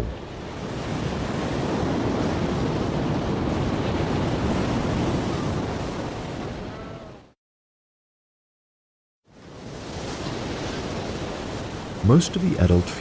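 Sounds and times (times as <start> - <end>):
ocean surf rushing: 0.0 - 7.4, 9.3 - 13.0.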